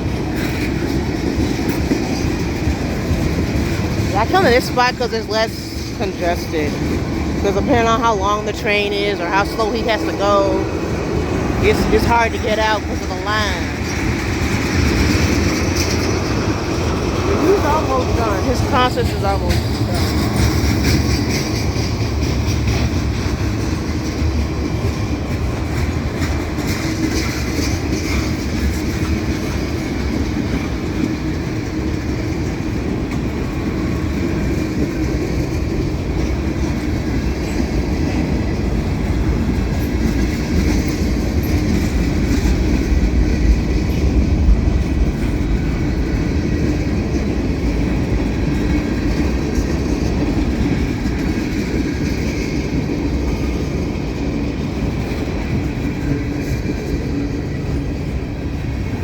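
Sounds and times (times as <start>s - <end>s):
freight train cars rolling past: 0.0s - 59.0s
wheels clicking over rail joints: 0.0s - 59.0s.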